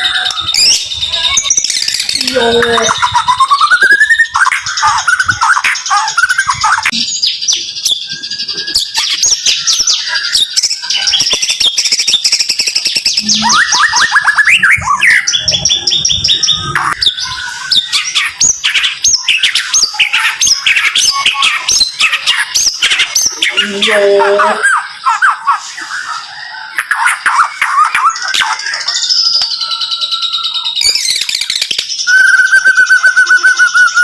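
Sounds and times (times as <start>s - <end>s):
bird singing rapid whistled trills: 0.0s - 34.0s.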